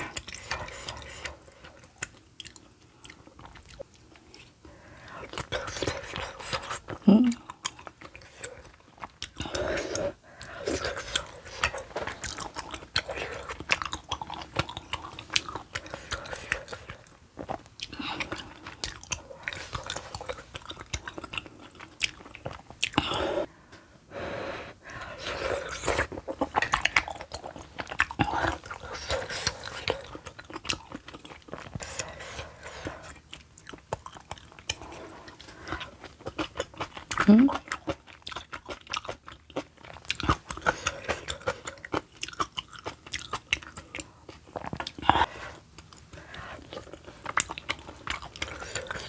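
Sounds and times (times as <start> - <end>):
wet chewing and smacking: 0.0 - 9.6, 10.4 - 23.2, 25.3 - 49.0
food crunching: 5.2 - 23.2, 25.2 - 49.0.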